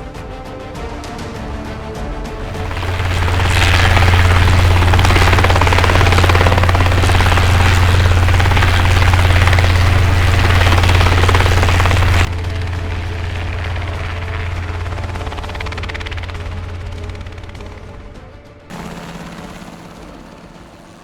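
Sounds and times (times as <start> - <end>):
helicopter rotor chopping: 2.3 - 21.0.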